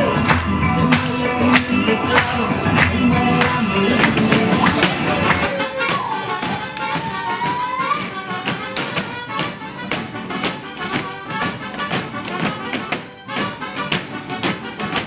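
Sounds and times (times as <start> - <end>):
dancers' rhythmic heel and toe taps: 0.0 - 15.0
mariachi band playing folk music: 0.0 - 15.0.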